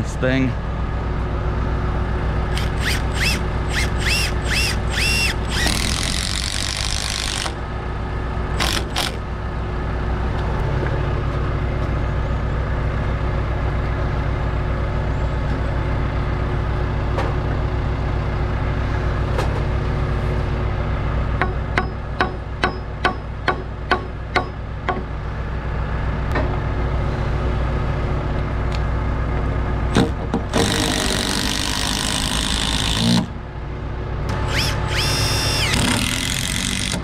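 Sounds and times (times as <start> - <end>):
lift engine running: 0.0 - 37.0.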